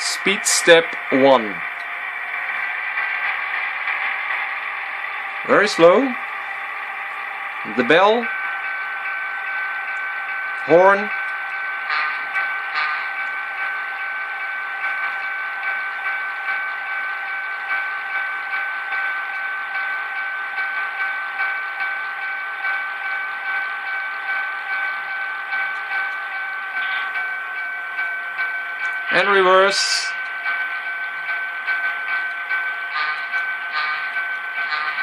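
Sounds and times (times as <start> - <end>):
model locomotive sound pulsing tone: 0.0 - 35.0.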